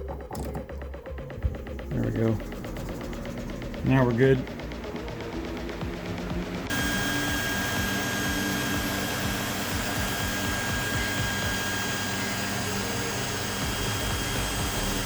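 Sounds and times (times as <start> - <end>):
cooling fans whirring: 0.1 - 15.0
thin high whine: 1.5 - 15.0.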